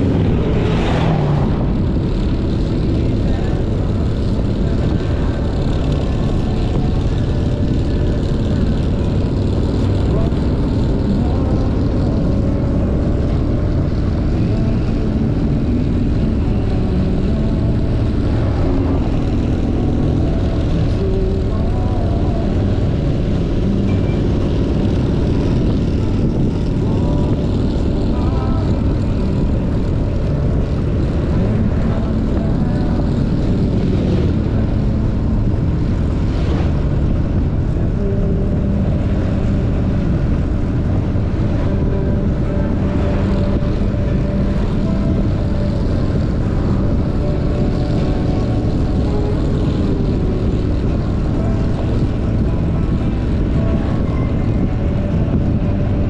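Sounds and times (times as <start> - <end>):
motorcycle engine drone: 0.0 - 56.0
wind rush on microphone: 0.0 - 56.0.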